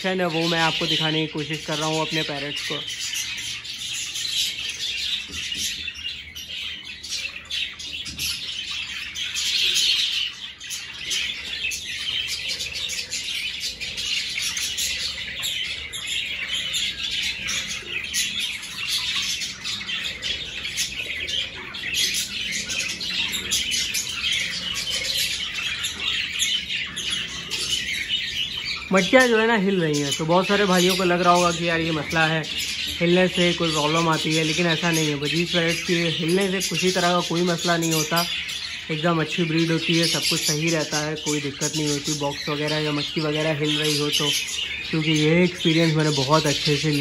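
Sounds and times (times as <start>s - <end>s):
budgerigars chattering and chirping: 0.0s - 47.0s.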